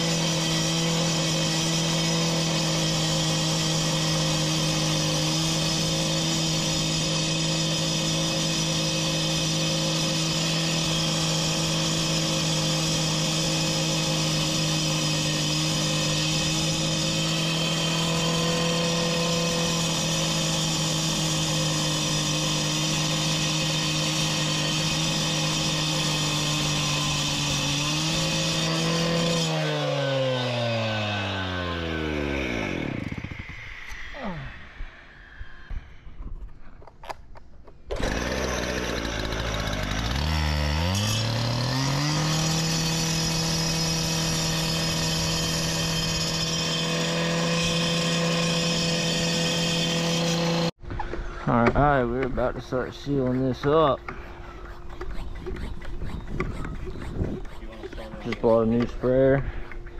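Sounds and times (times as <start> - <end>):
gas cut-off saw cutting stone: 0.0 - 36.1, 37.9 - 50.8, 51.6 - 59.9.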